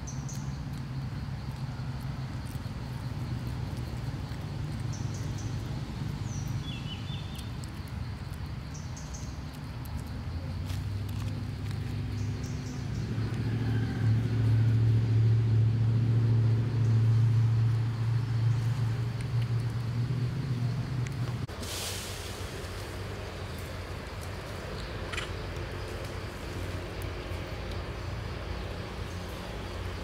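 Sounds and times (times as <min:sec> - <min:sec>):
low engine-like hum: 0:00.0 - 0:30.0.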